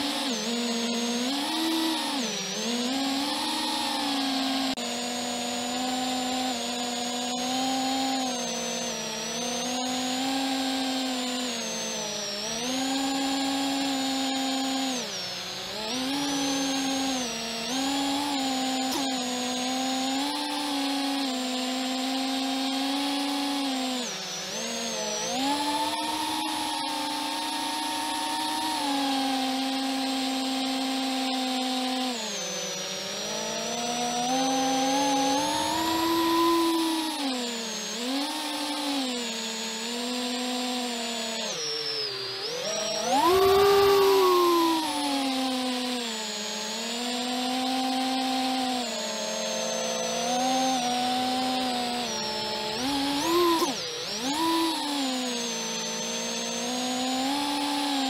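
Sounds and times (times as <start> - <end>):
quadcopter motors whining: 0.0 - 58.0.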